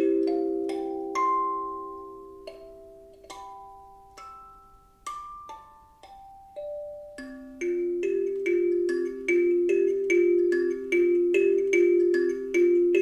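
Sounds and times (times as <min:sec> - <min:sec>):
kalimba notes: 0:00.0 - 0:13.0.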